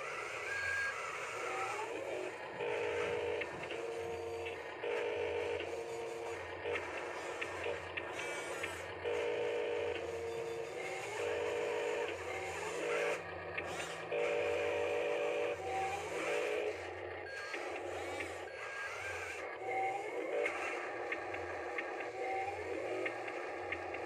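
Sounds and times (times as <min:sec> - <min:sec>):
toy gear motors whining: 0:00.0 - 0:24.0.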